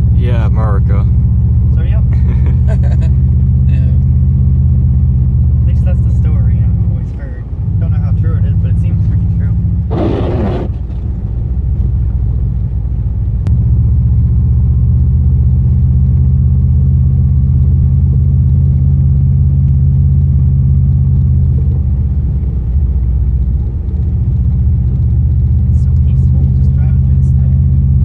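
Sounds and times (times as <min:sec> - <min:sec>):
car engine and road drone: 0:00.0 - 0:28.0.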